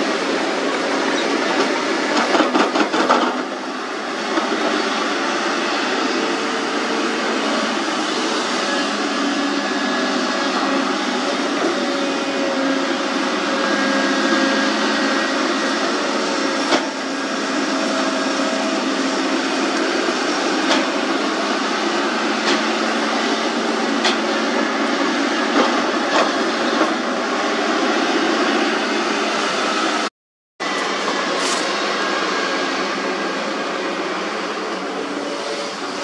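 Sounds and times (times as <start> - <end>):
excavator diesel and hydraulic drone: 0.0 - 36.0.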